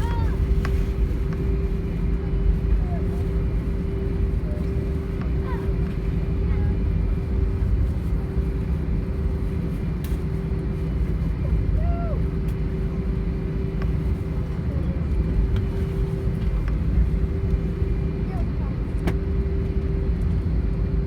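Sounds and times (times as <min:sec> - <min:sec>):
aircraft engines rumbling: 0:00.0 - 0:21.0
constant hum: 0:00.0 - 0:21.0.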